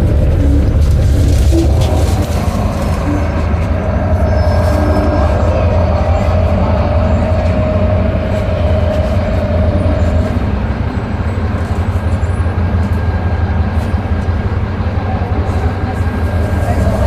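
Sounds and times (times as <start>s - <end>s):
bus diesel engine rumble: 0.0s - 17.0s
high whine: 0.0s - 17.0s.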